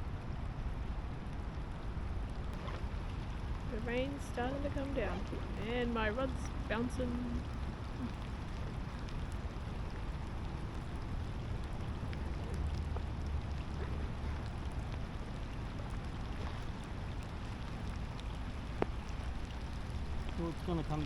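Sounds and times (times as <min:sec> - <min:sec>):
light rain falling: 0:00.0 - 0:21.0
low rumble: 0:00.0 - 0:21.0
raindrop ticks: 0:01.2 - 0:21.0.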